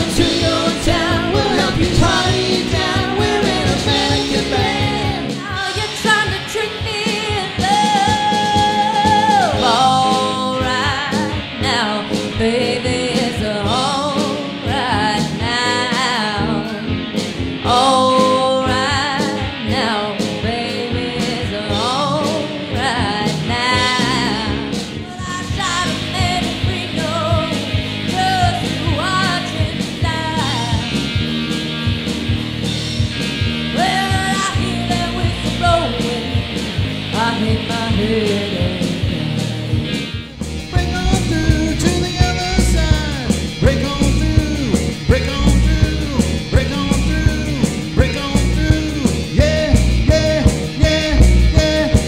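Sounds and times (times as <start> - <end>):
rock band with singer: 0.0 - 52.0.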